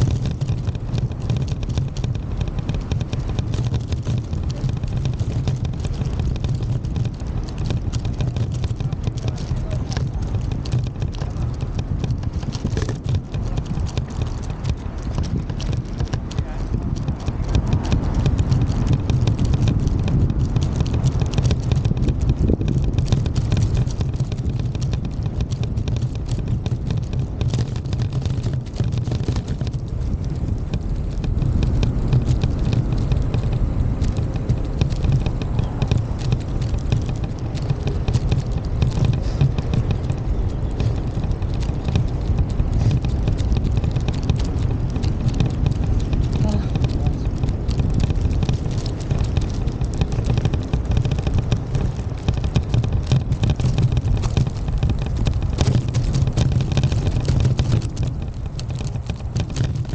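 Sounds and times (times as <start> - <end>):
microphone handling noise: 0.0 - 59.9
wind rumble: 0.0 - 59.9.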